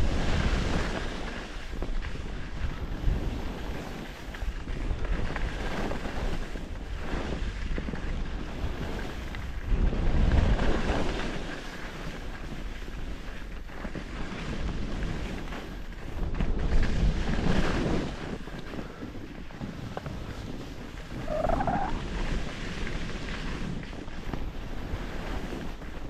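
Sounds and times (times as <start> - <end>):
wind rushing over microphone: 0.0 - 26.0
skis hissing over snow: 0.1 - 26.0.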